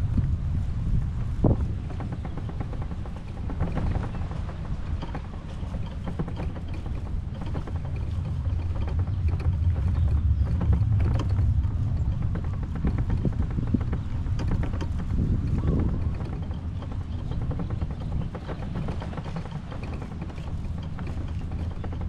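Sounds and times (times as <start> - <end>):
wind buffeting microphone: 0.0 - 22.0
light clicks and creaks: 0.9 - 22.0.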